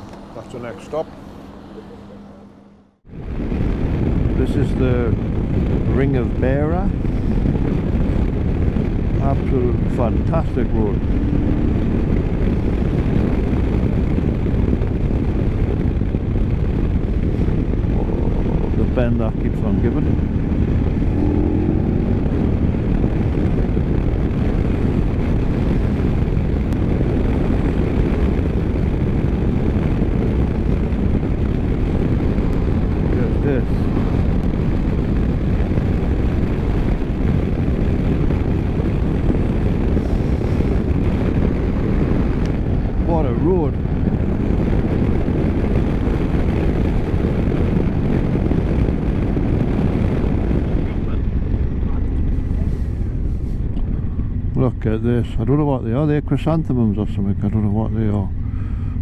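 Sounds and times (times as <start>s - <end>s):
motorcycle riding: 0.0s - 55.6s
wind rushing over microphone: 0.0s - 59.0s.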